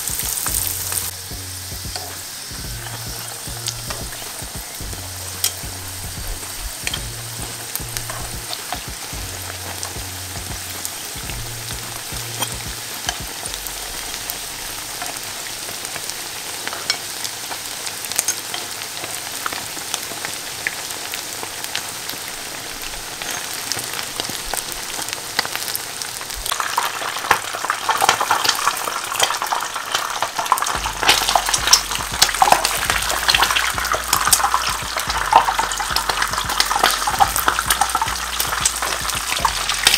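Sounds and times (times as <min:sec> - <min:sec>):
dough sizzling in hot oil: 0:00.0 - 0:39.9.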